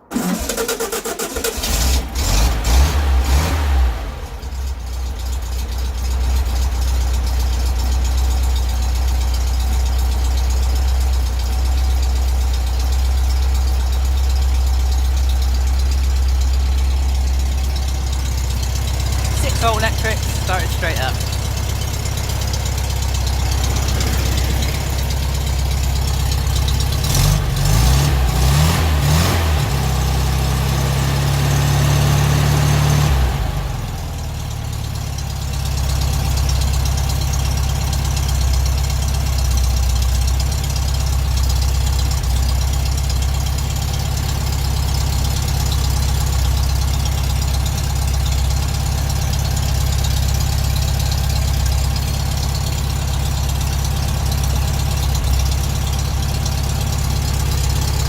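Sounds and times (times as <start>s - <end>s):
car engine fast idle: 0.0s - 58.0s.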